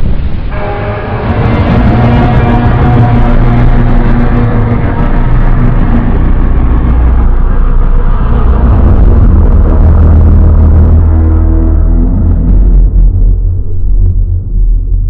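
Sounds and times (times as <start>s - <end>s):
deep growling monster rumble: 0.0s - 15.0s.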